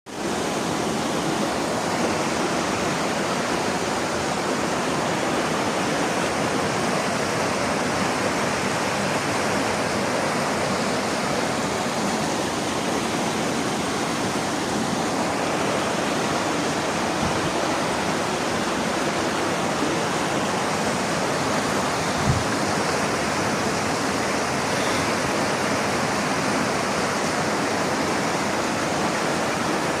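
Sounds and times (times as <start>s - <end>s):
water rushing over rocks: 0.1s - 30.0s.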